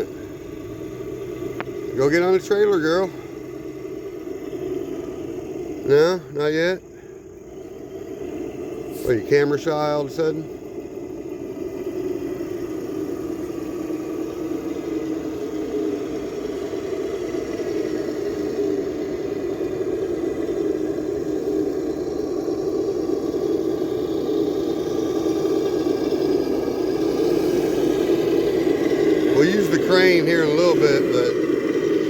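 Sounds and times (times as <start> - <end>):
electric motor humming: 0.0 - 32.0.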